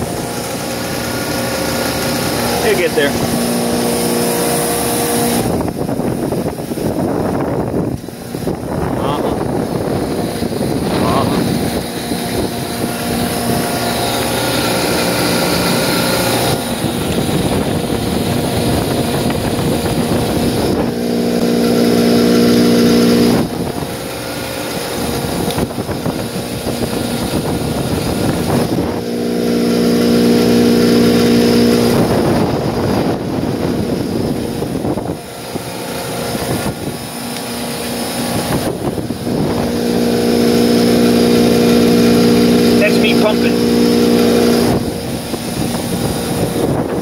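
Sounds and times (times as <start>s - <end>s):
refrigeration unit humming: 0.0s - 47.0s
rough noisy background: 0.0s - 47.0s.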